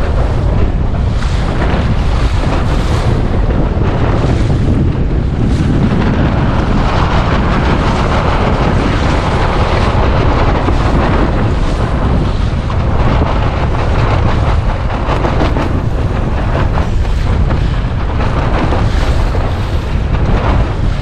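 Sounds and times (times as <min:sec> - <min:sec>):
gusty wind buffeting microphone: 0:00.0 - 0:21.0
waves washing against boat hull: 0:00.0 - 0:21.0.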